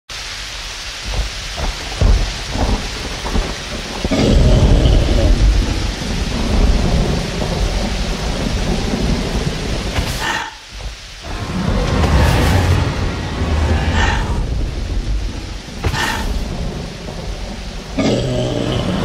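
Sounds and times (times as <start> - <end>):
rain falling: 0.1 - 19.0
thunder rumbling: 0.9 - 19.0.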